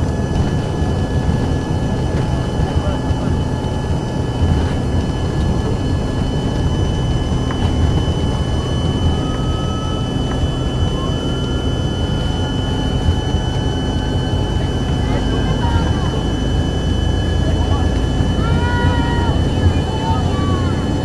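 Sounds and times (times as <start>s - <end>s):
jet engine whine: 0.0s - 21.0s
low rumble of airframe and wheels: 0.0s - 21.0s.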